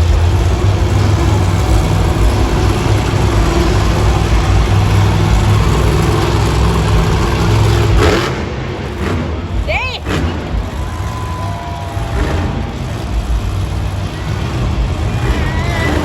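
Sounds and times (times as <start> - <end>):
monster truck engine rumbling: 0.0 - 16.0.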